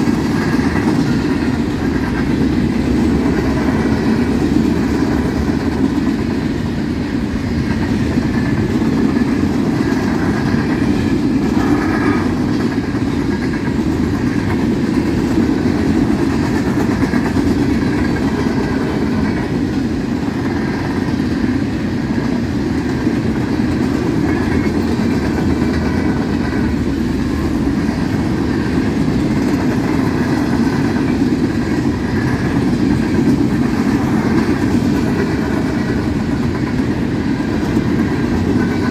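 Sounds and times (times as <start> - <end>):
freight train wheels rumbling: 0.0 - 38.9
wheels and rails ringing: 0.0 - 38.9.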